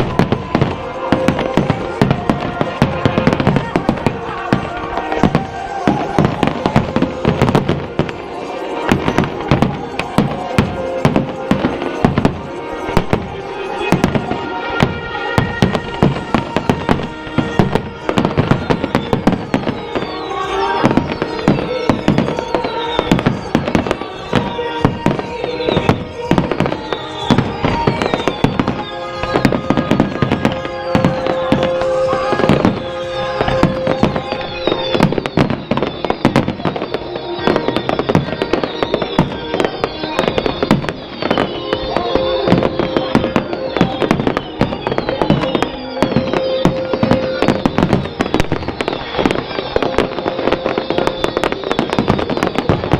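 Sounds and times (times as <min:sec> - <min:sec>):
fireworks bangs and crackles: 0:00.0 - 0:52.9
music playing: 0:00.0 - 0:52.9.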